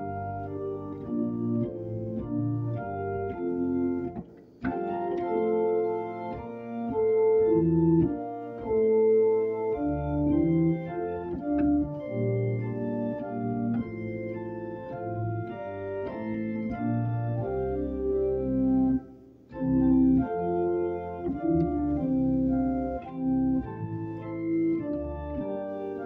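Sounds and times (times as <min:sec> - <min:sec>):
organ playing a hymn: 0:00.0 - 0:26.0.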